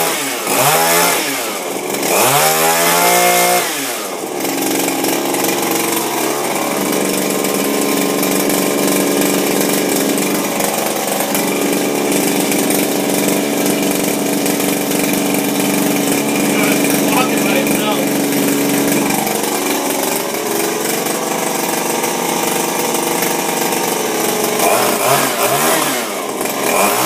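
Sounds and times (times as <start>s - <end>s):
two-stroke engine revving and idling: 0.0s - 27.0s.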